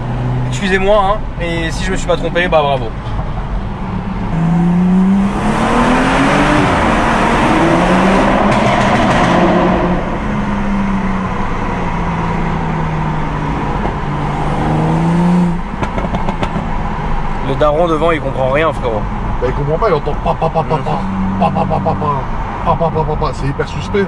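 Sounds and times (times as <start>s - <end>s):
car engine accelerating hard: 3.8s - 24.0s.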